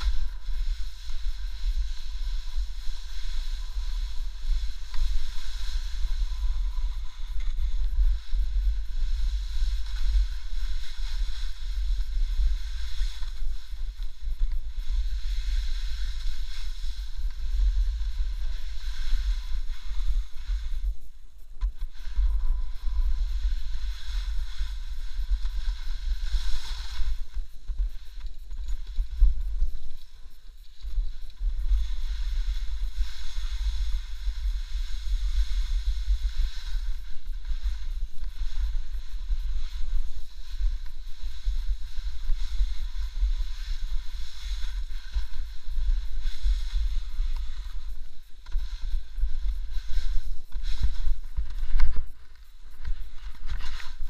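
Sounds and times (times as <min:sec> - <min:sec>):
snowboard sliding through snow: 0:00.0 - 0:54.0
wind buffeting microphone: 0:00.0 - 0:54.0.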